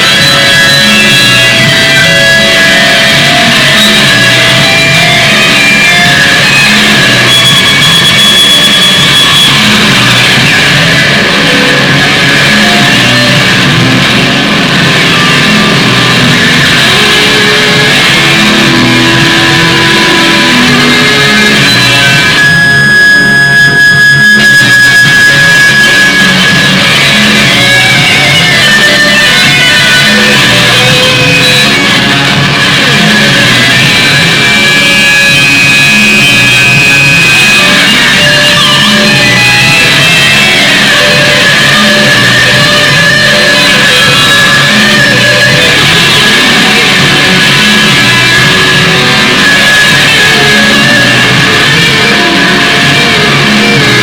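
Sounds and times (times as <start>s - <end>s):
rock music with guitar: 0.0s - 54.0s.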